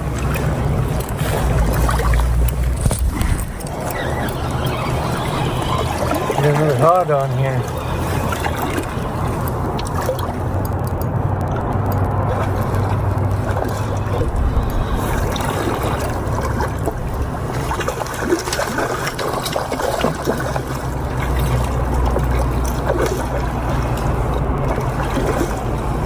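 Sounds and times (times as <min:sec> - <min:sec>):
steady low rumble: 0:00.0 - 0:26.0
water splashing and trickling: 0:00.0 - 0:26.0.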